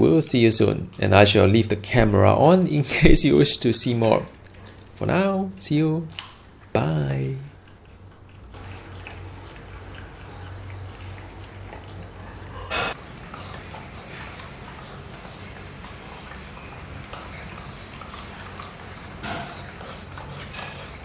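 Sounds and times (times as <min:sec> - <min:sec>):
steady low hum: 0:00.0 - 0:21.0
puppy chewing rubber toy: 0:00.6 - 0:21.0.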